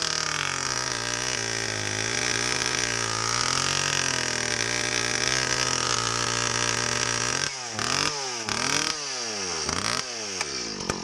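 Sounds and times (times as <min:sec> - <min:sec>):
chainsaw revving: 0:00.0 - 0:11.0.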